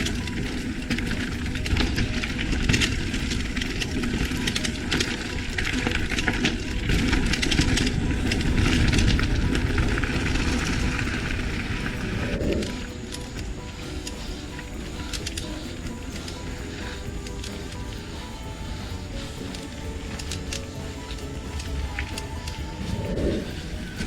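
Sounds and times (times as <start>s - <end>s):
tyres rumbling: 0.0s - 24.0s
wind rumble: 0.0s - 24.0s.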